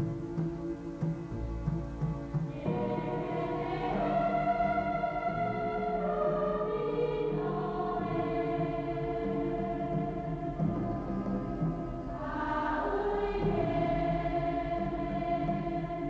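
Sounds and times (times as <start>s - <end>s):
orchestral music with choir: 0.0s - 16.0s.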